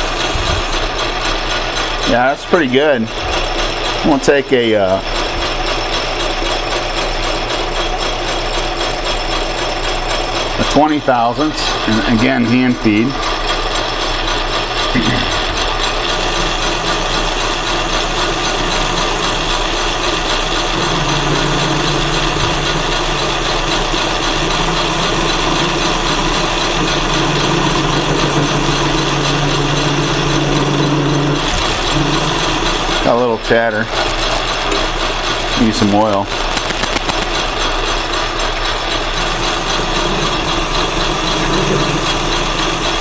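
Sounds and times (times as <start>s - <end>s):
lathe tool cutting steel: 0.0s - 43.0s
metal lathe gears whirring: 0.0s - 43.0s.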